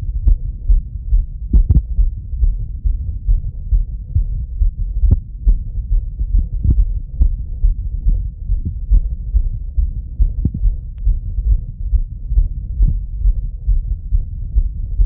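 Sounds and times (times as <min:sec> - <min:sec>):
heartbeat thuds: 0:00.0 - 0:15.0
low stethoscope rumble: 0:00.0 - 0:15.0.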